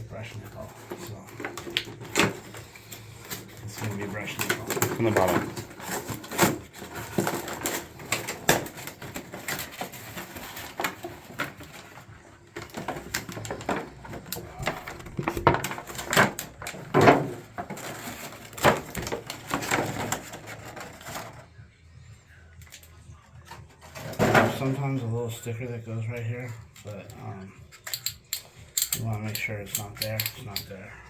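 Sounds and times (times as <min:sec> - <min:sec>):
clicks knocks and scrapes of parts: 0:00.4 - 0:21.4, 0:26.8 - 0:30.8.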